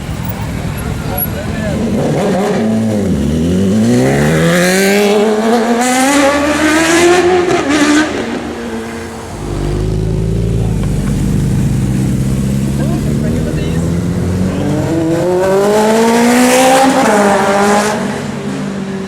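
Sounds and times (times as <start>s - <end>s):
vehicle engine rumble: 0.0s - 5.5s, 6.4s - 16.2s
motorcycle accelerating: 0.0s - 19.0s.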